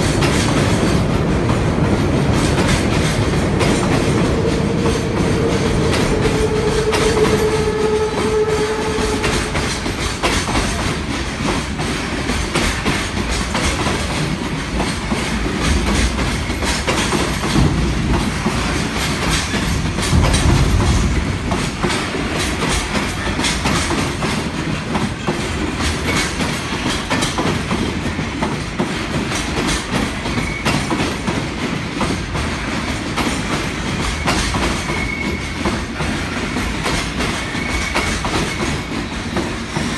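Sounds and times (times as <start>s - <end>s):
freight train wheels clicking: 0.0s - 39.9s
train rumble: 0.0s - 39.9s.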